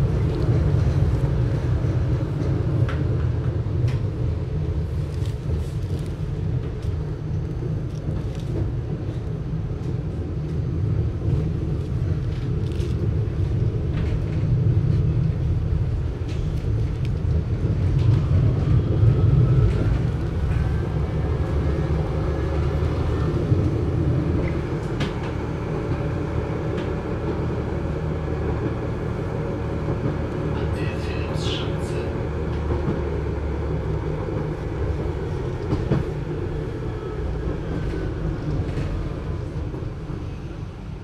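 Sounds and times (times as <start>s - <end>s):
tram rumbling: 0.0s - 41.0s.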